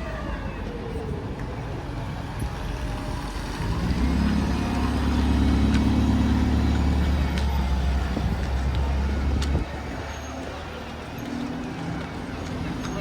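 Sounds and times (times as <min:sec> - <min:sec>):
diesel bus engine humming: 0:00.2 - 0:13.0.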